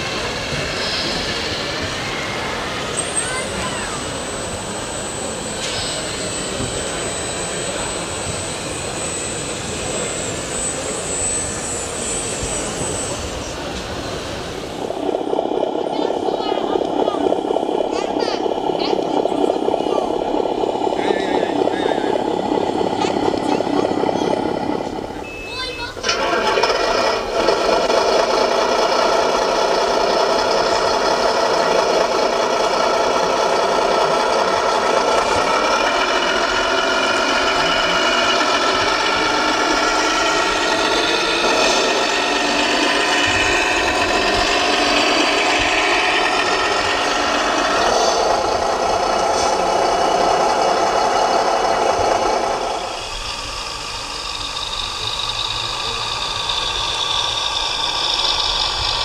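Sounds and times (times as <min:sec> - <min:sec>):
electronic diesel engine sound: 0:00.0 - 0:59.0.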